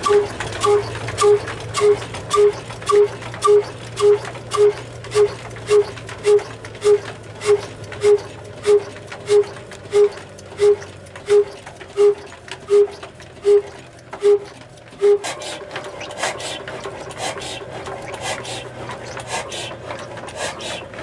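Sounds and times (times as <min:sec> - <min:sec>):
diesel engine exhaust beats: 0:00.0 - 0:21.0.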